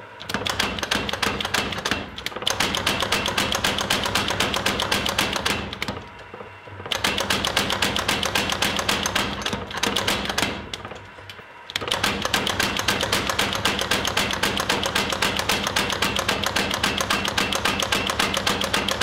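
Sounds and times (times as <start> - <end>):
power hammer striking steel: 0.2 - 11.1, 11.7 - 19.0.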